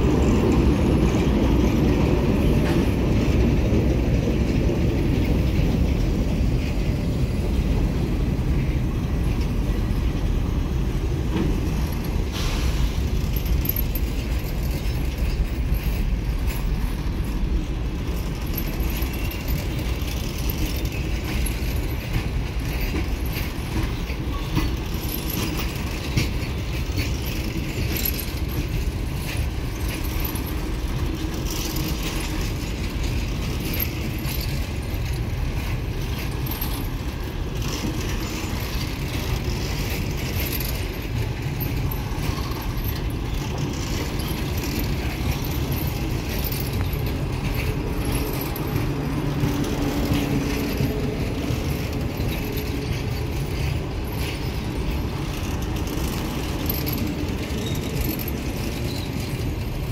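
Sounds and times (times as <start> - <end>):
train rumbling on rails: 0.0 - 59.9
metallic rattle: 11.3 - 59.9.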